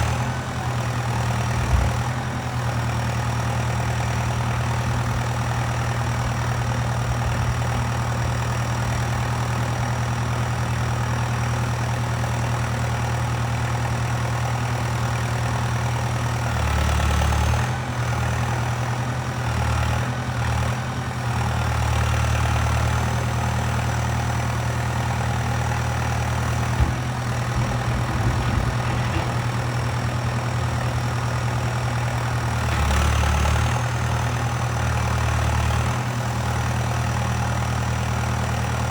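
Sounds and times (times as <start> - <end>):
backhoe loader engine running: 0.0 - 38.9.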